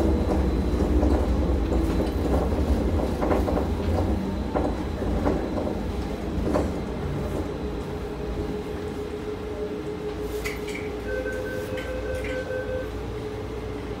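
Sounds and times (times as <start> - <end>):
train low rumble: 0.0 - 14.0
train whine: 0.0 - 14.0.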